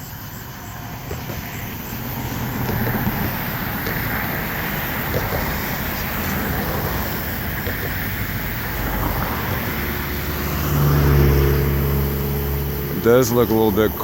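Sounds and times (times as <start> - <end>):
highway traffic rushing: 0.0 - 14.0.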